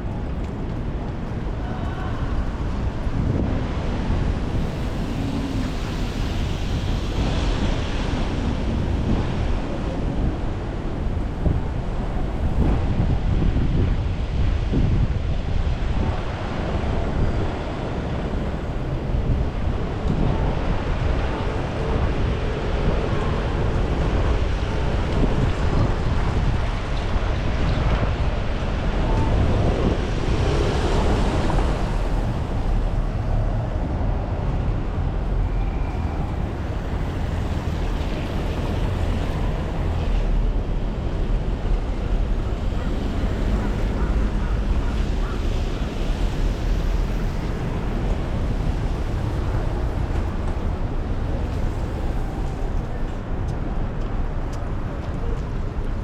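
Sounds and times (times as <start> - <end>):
gusty wind buffeting microphone: 0.0 - 56.0
street traffic: 0.0 - 56.0.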